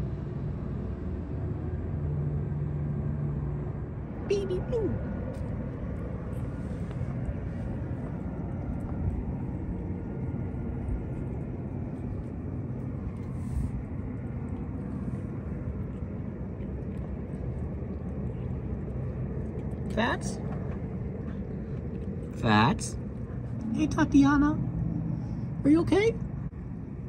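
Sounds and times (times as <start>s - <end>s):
distant city traffic rumble: 0.0s - 27.0s
faint engine hum: 0.0s - 27.0s.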